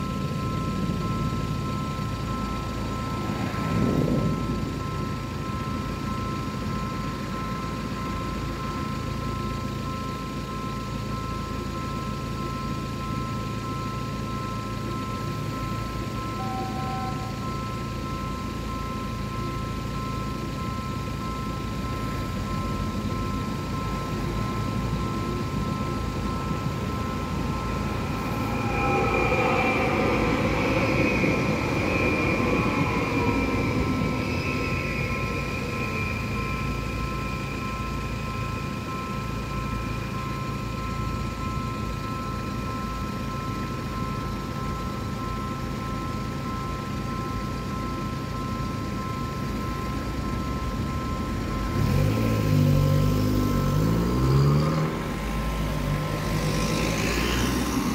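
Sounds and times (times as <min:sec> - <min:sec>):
level crossing warning tone: 0:00.0 - 0:57.9
train passing with whine: 0:00.0 - 0:57.9.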